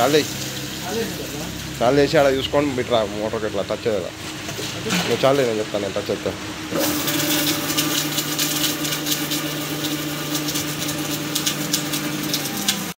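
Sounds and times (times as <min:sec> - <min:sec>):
electric pump motor humming: 0:00.0 - 0:13.0.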